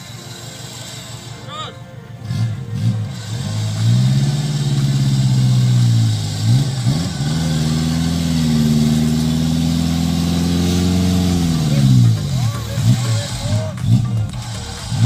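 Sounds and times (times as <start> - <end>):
off-road vehicle engine revving: 2.2 - 15.0.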